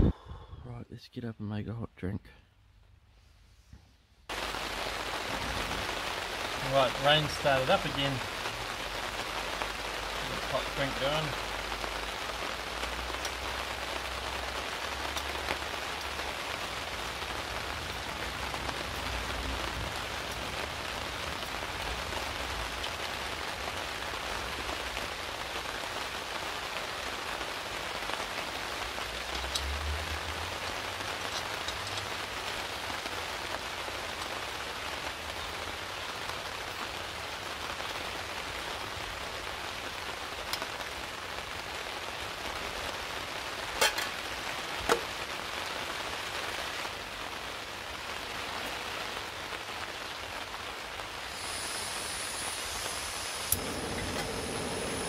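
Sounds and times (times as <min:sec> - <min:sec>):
rain on a tarp: 0:04.2 - 0:55.0.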